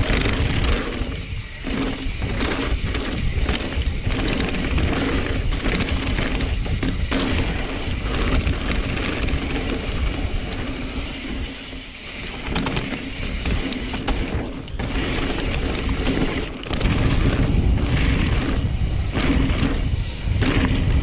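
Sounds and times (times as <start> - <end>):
wind rumble on microphone: 0.0 - 11.5, 12.4 - 21.0
bicycle chain rattling: 0.0 - 21.0
freehub ratcheting: 0.0 - 21.0
tyres rolling on dirt: 0.0 - 21.0.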